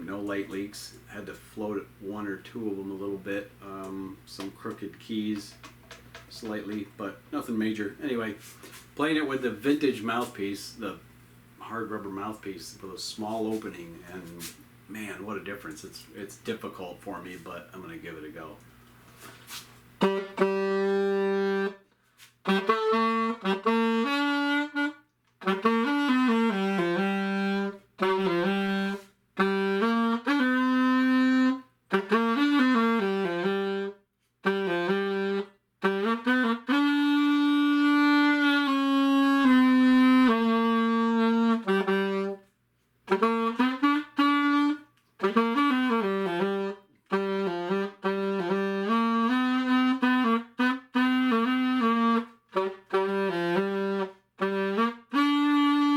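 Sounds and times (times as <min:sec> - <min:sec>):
alto saxophone playing: 0:02.0 - 0:11.0, 0:19.2 - 0:55.9.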